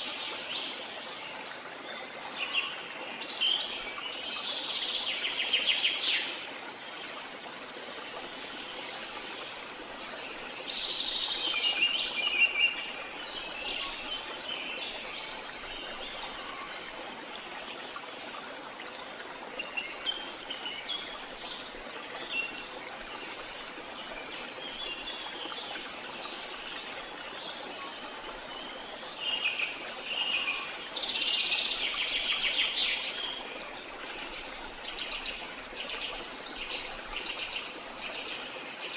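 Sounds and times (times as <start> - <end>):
songbirds twittering: 0.0 - 38.9.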